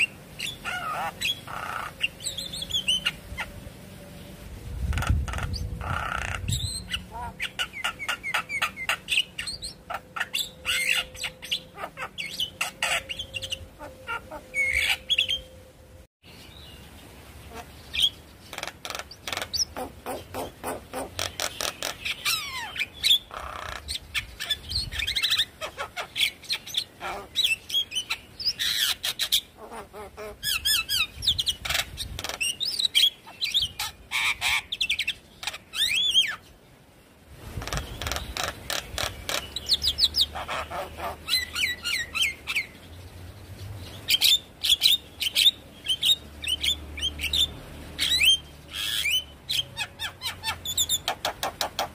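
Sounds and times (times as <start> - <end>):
bird singing varied song: 0.0 - 51.9.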